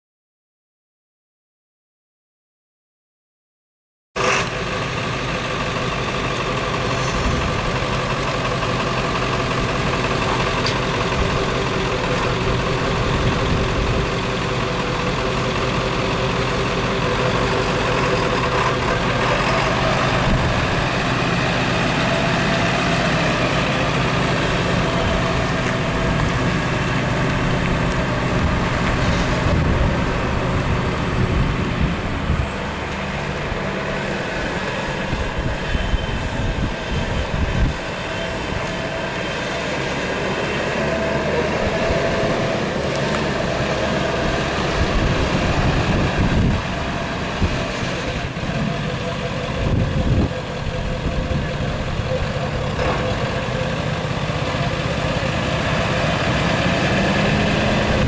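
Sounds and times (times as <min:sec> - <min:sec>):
diesel engine idling: 0:04.2 - 0:58.0.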